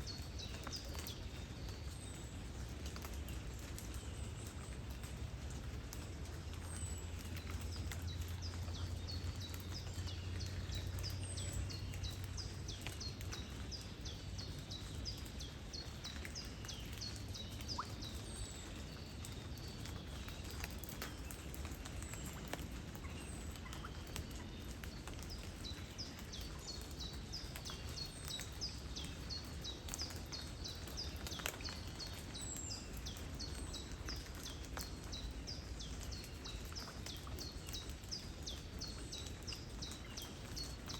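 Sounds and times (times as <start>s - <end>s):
flowing river water: 0.0s - 40.9s
light rain: 0.0s - 40.9s.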